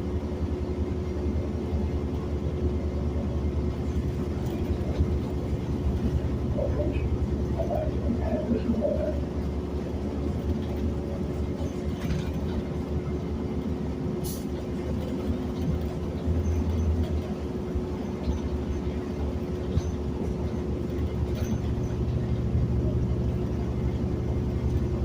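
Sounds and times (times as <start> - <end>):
bus engine and road rumble: 0.0 - 25.0
constant hum: 0.0 - 25.0.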